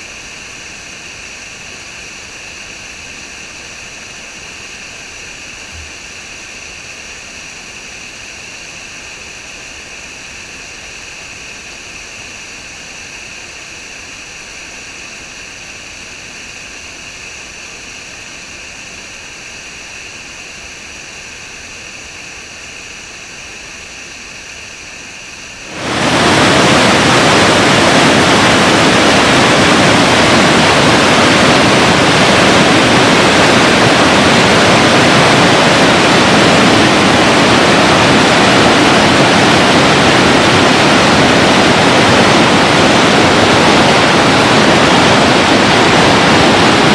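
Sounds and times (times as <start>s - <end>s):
waterfall rushing water: 0.0s - 46.9s.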